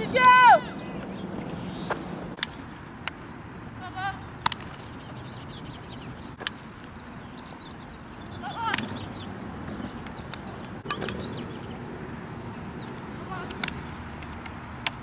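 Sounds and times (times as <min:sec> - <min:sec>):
open-air background hiss: 0:00.0 - 0:15.0.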